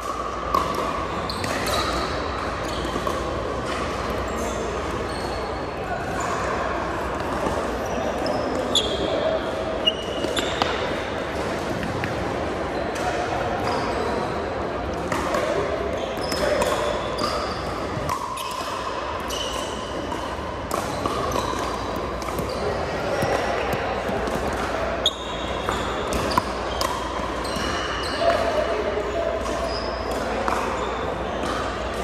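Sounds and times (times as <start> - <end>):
sneakers squeaking on floor: 0.0 - 14.5, 15.1 - 32.0.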